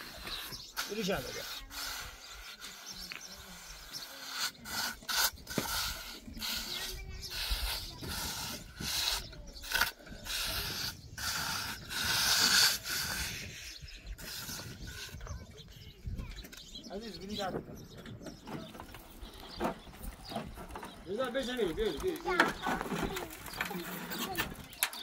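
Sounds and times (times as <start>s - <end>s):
rustling and scraping: 0.0s - 25.0s.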